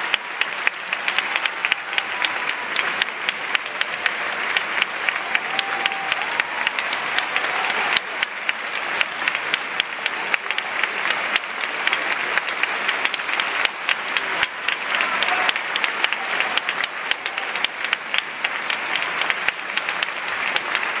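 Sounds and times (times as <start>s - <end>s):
large audience applauding: 0.0s - 21.0s
sharp claps close to microphone: 0.0s - 21.0s.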